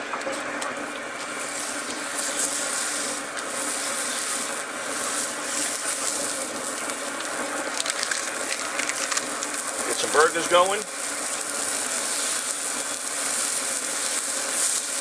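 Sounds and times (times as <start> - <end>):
burger patty sizzling on griddle: 0.0 - 15.0.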